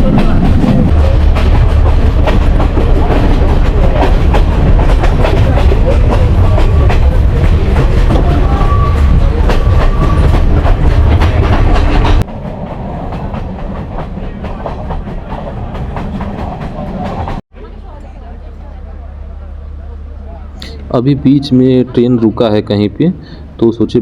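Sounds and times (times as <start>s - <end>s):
train rumbling inside carriage: 0.0s - 24.0s.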